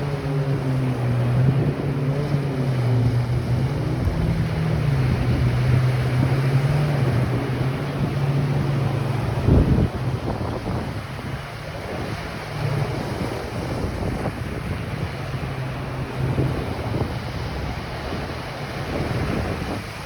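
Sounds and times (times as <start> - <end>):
low motor drone: 0.0 - 20.0
ocean surf washing in: 0.0 - 20.0
wind on microphone: 0.0 - 20.0.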